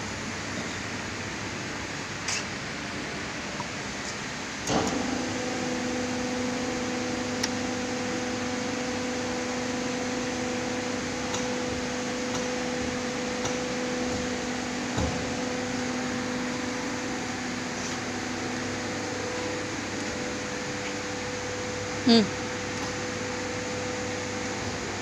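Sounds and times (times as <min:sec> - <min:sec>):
hydraulic pump motor humming: 0:04.6 - 0:25.0.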